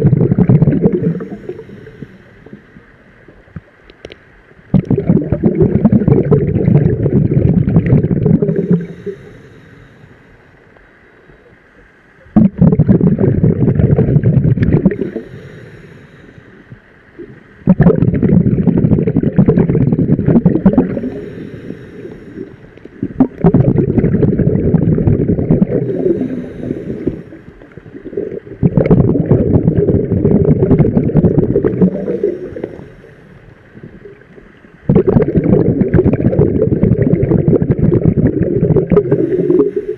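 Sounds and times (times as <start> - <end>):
exhaled bubbles underwater: 0.0 - 3.7, 4.6 - 9.8, 12.2 - 39.9.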